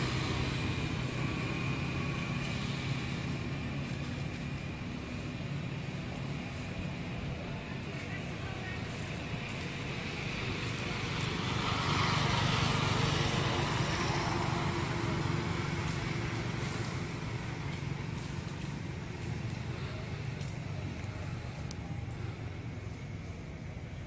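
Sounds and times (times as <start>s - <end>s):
passing vehicle engine rumble: 0.0s - 24.0s.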